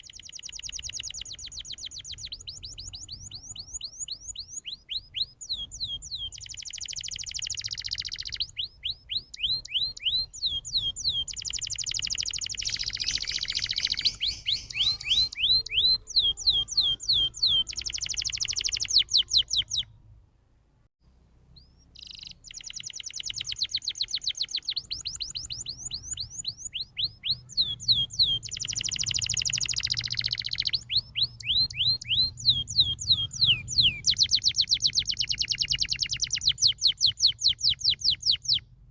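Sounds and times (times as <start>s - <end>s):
canary singing: 0.0s - 20.0s, 21.5s - 38.7s.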